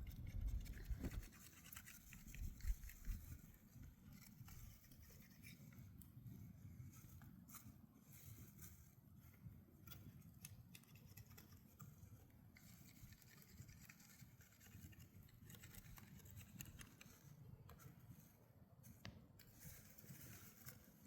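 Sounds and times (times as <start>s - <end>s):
soft clicks and scratches: 0.0s - 21.0s.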